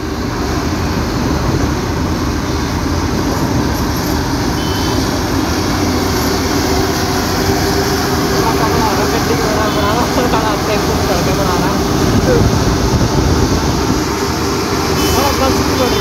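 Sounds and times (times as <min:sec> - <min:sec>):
auto-rickshaw engine running: 0:00.0 - 0:16.0
bus engine: 0:00.0 - 0:16.0
city traffic: 0:00.0 - 0:16.0.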